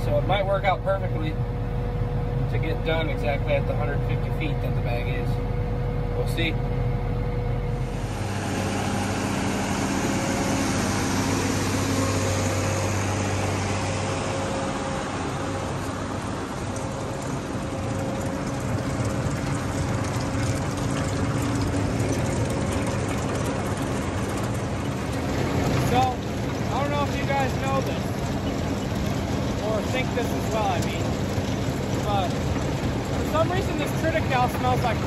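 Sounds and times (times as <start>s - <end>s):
tractor engine hum: 0.0s - 35.0s
machinery noise: 6.2s - 35.0s.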